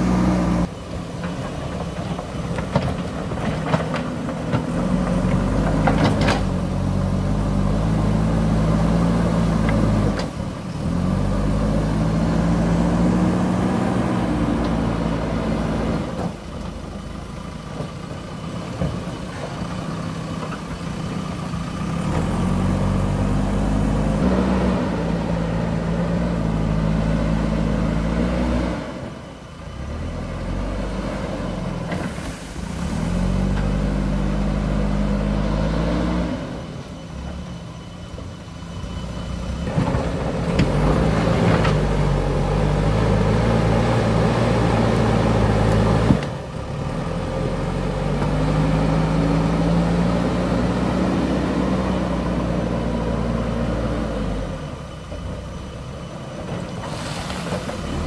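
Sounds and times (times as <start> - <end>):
diesel engine revving under load: 0.0 - 0.8, 2.6 - 58.0.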